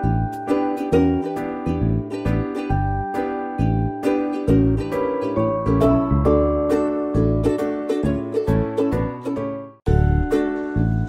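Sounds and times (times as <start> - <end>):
bouncy plucked-string tune: 0.0 - 11.0.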